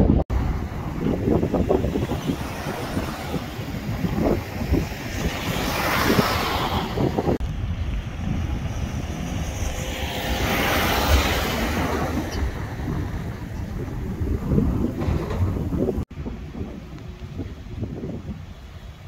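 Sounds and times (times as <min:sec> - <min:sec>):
wind buffeting microphone: 0:00.0 - 0:19.0
cars driving past: 0:00.3 - 0:16.0.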